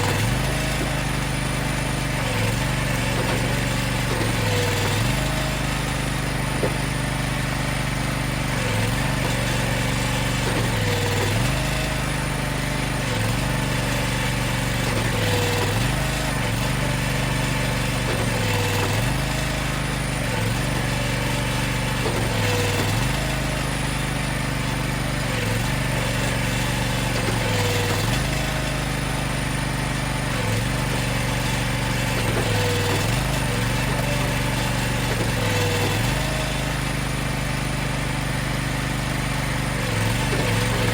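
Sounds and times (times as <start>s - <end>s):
log splitter engine running: 0.0s - 40.9s.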